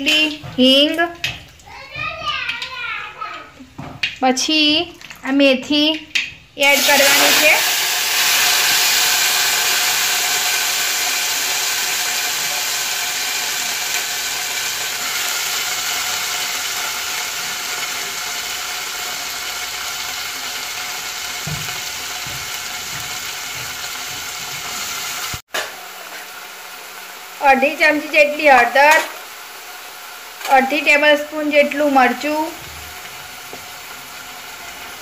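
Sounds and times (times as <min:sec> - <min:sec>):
leaves sizzling in hot oil: 0:06.1 - 0:35.0.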